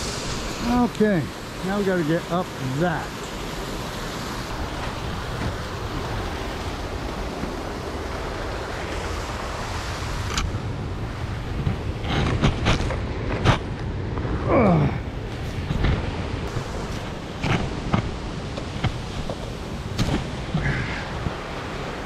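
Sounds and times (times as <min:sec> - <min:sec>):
waterfall and river rushing: 0:00.0 - 0:22.0.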